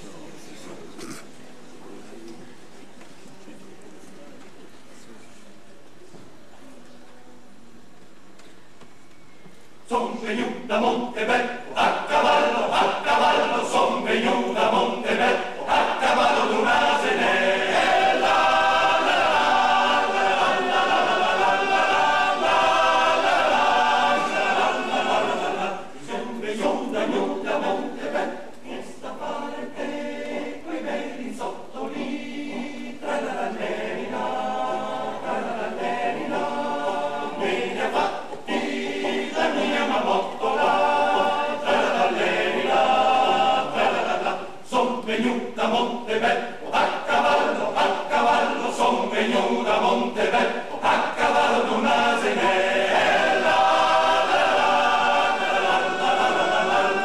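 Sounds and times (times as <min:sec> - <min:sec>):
male choir singing a cappella: 0:09.8 - 0:57.0.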